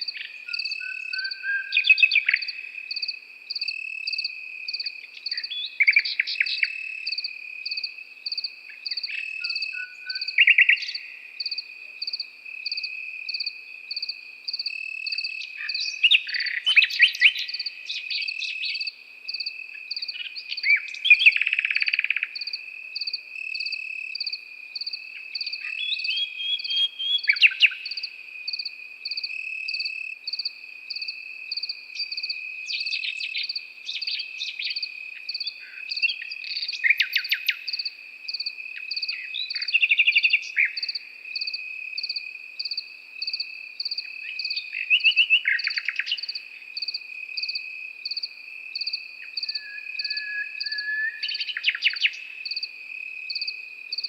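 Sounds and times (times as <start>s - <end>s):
crickets trilling: 0.0s - 54.0s
insect chirping rhythmically: 0.0s - 54.0s
nightingale singing: 0.0s - 54.0s.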